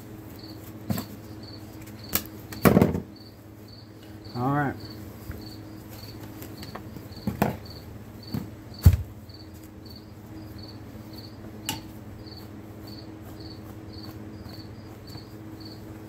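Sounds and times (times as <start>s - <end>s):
cricket chirping: 0.4s - 15.9s.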